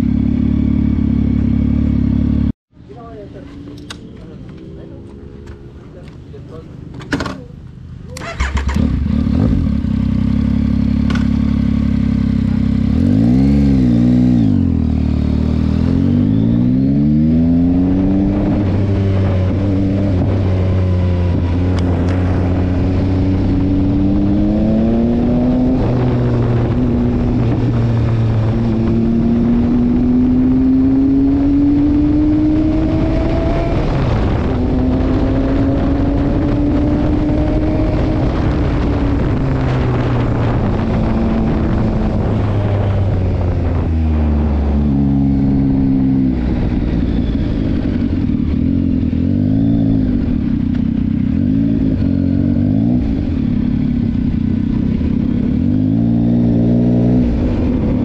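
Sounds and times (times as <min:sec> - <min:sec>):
motorcycle accelerating through gears: 0:00.0 - 0:02.5, 0:08.1 - 0:58.0
motorcycle engine revving: 0:00.0 - 0:58.0.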